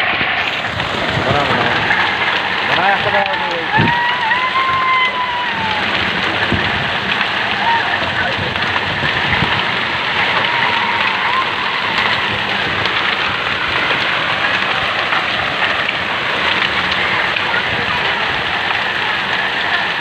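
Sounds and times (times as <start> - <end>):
hail and rain pelting ground: 0.0 - 20.0.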